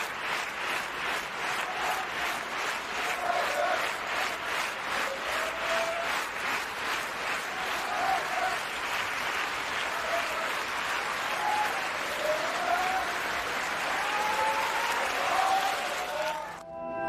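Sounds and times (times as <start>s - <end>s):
audience applauding: 0.0s - 16.6s.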